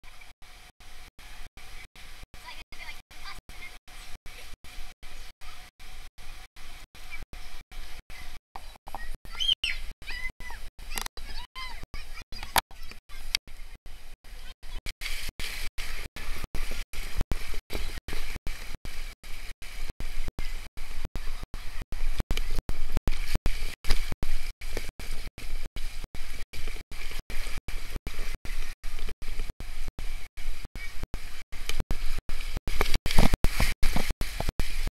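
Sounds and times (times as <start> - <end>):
water rushing along a slide: 0.1 - 34.9.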